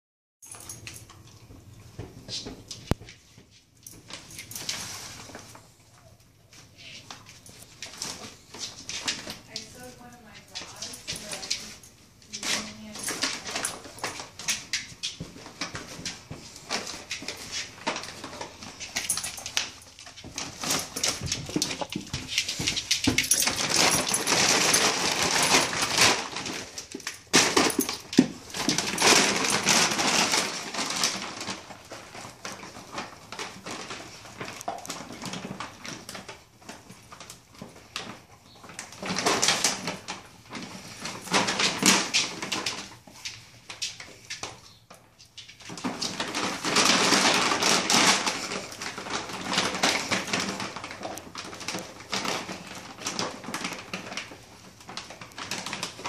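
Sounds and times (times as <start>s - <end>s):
plastic bag crinkling: 3.8s - 56.0s.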